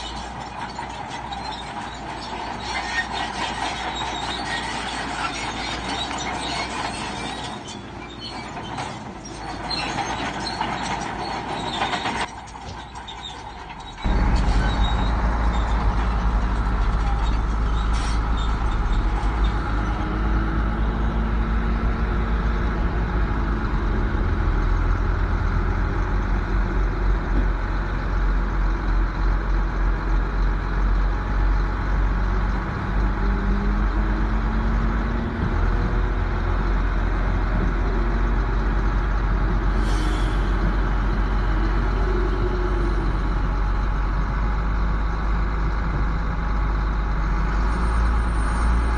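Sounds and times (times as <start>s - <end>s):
heavy diesel machinery rumbling: 0.0s - 48.9s.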